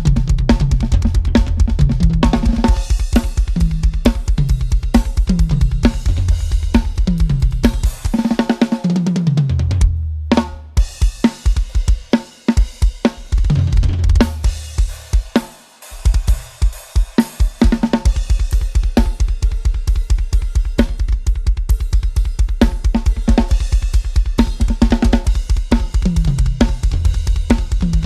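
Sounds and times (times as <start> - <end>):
drum kit playing: 0.0 - 28.0
fast bass drum strokes: 0.0 - 28.0.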